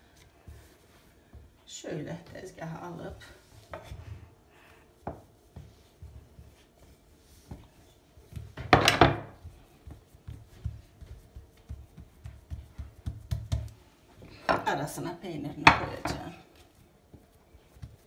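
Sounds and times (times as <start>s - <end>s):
hands patting dough: 0.0s - 14.8s, 15.6s - 18.0s
rolling pin rolling dough: 0.0s - 14.9s, 15.5s - 18.0s.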